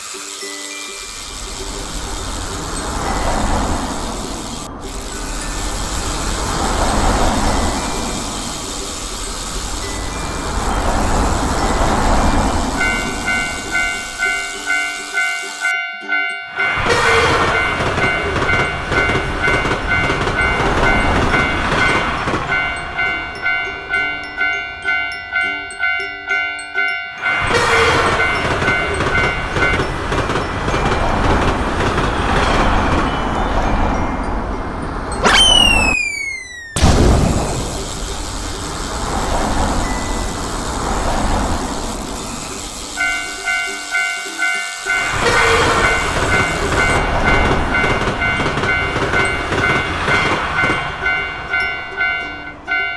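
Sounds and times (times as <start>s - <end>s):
railroad crossing bell ringing: 0.0s - 35.3s, 36.5s - 52.9s.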